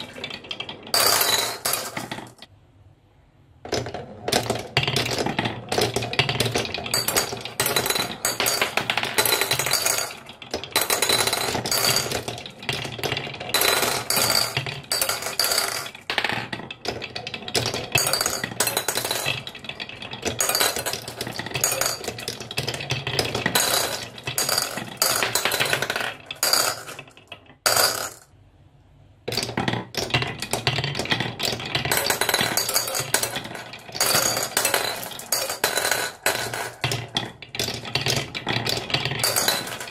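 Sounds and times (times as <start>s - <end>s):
marbles clinking into bowls: 0.0s - 2.5s, 3.7s - 28.3s, 29.3s - 39.9s
marbles rattling on wooden tracks: 0.0s - 2.5s, 3.6s - 28.3s, 29.3s - 39.9s.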